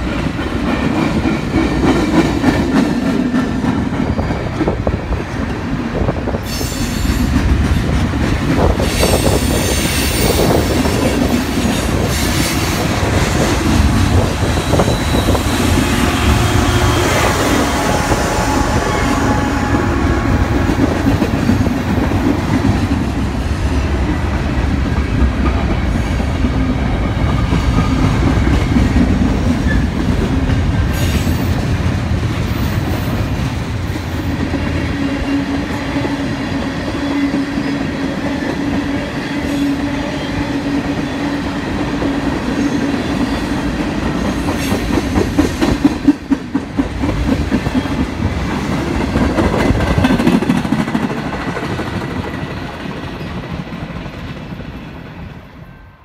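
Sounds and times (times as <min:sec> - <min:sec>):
steel wheels on rail: 0:00.0 - 0:56.0.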